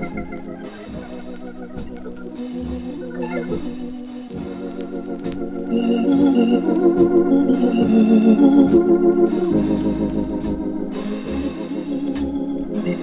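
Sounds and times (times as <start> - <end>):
light drums: 0.0 - 13.0
organ playing jazz ballad: 0.0 - 13.0.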